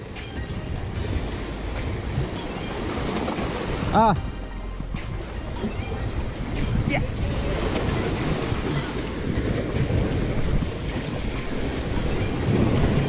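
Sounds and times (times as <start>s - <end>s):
sea waves against rocks: 0.0s - 13.0s
wind rumbling on microphone: 0.0s - 13.0s.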